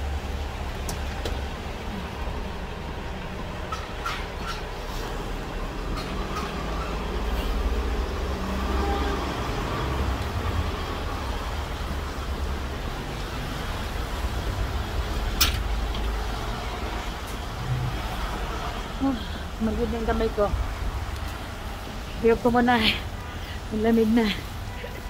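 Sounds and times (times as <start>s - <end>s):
bus engine rumbling: 0.0s - 25.0s
city street traffic: 0.0s - 25.0s.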